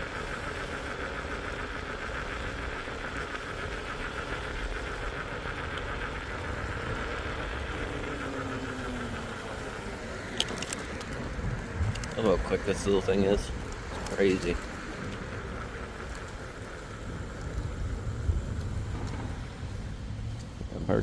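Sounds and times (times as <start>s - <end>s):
motorcycle engine running: 0.0s - 21.0s
rushing wind and road noise: 0.0s - 21.0s.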